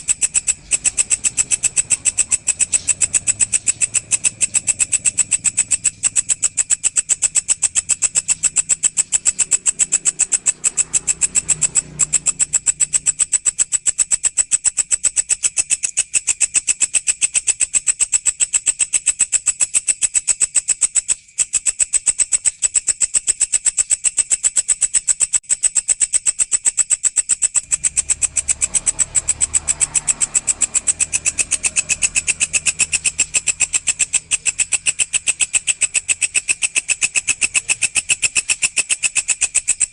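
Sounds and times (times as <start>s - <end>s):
grasshopper chirring: 0.0s - 39.9s.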